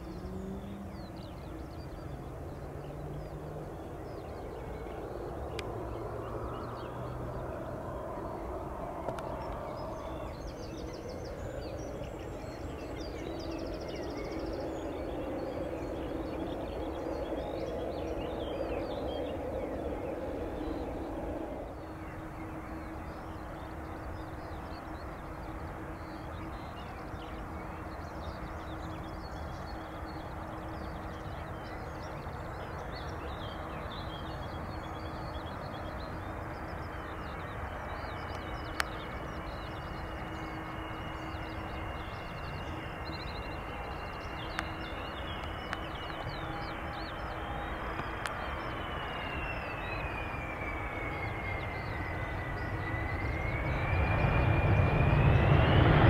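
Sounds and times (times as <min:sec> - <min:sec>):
distant jet engines humming: 0:00.0 - 0:56.0.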